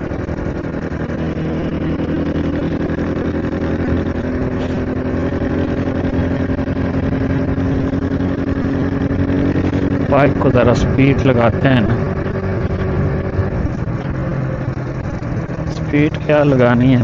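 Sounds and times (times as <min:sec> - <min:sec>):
motorcycle engine cruising: 0:00.0 - 0:17.0
road and wind noise: 0:00.0 - 0:17.0.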